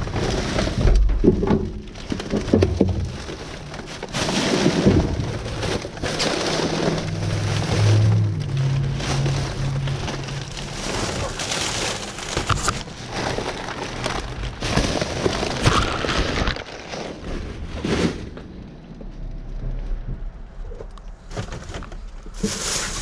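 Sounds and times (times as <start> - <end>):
plastic bag crinkling and rustling: 0.0 - 18.7, 21.2 - 23.0.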